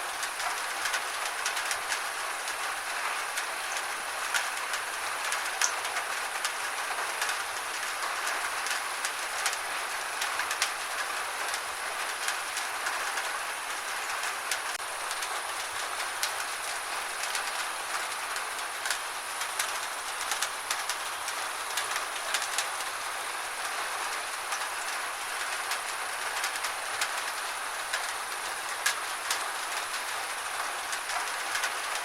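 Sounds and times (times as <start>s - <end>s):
gentle rain falling: 0.0s - 32.0s.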